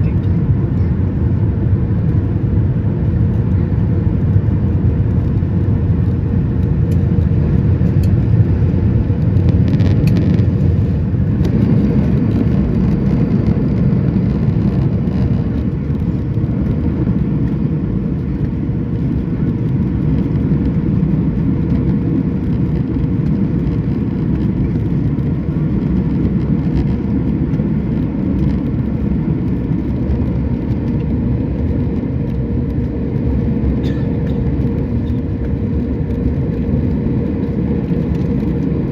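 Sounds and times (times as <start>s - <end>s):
aircraft cabin engine rumble: 0.0s - 38.9s
constant hum: 0.0s - 38.9s.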